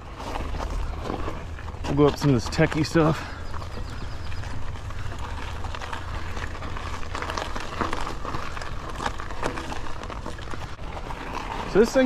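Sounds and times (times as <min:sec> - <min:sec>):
low wind rumble: 0:00.0 - 0:11.8
bike clicks and rattles: 0:00.0 - 0:12.0
tyres crunching over stones: 0:00.0 - 0:12.0.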